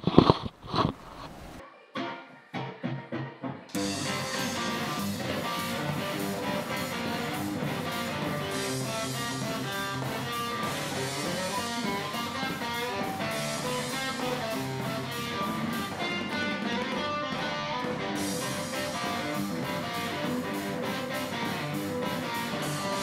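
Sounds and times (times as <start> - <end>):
electric guitar playing rock: 2.0 - 23.0
drums and cymbals: 3.7 - 23.0.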